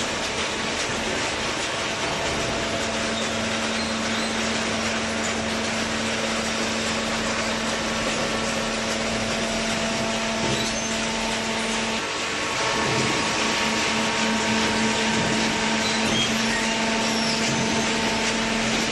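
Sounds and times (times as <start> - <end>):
baler motor and pump humming: 0.0 - 18.9
constant mechanical noise: 0.0 - 18.9.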